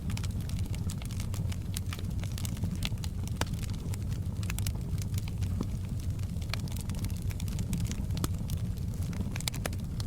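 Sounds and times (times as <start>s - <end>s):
fire crackling and popping: 0.0s - 10.0s.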